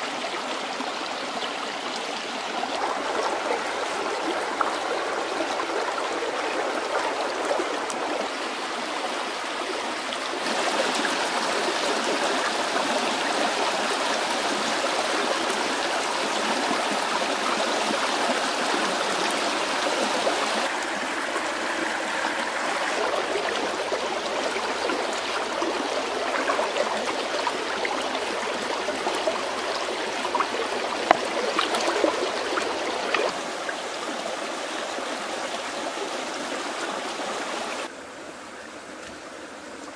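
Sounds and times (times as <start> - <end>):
stream rushing over stones: 0.0 - 38.0.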